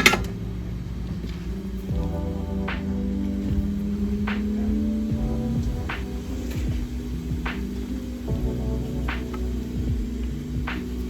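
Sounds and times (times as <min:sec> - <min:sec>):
background music low notes: 0:00.0 - 0:11.0.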